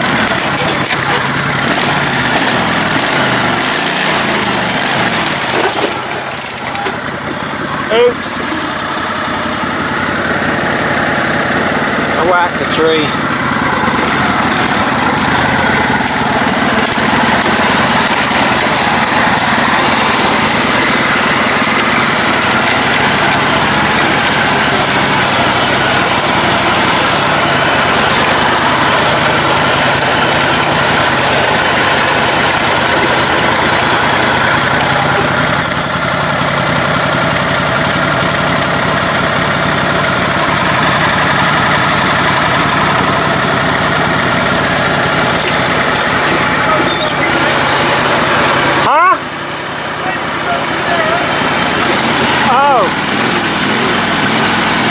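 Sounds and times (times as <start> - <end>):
riding lawn mower engine running: 0.0 - 54.9.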